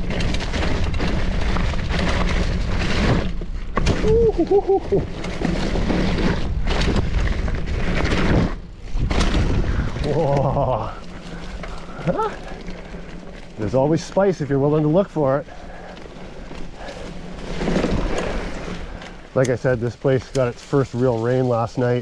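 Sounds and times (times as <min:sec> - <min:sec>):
bike tyre noise: 0:00.0 - 0:22.0.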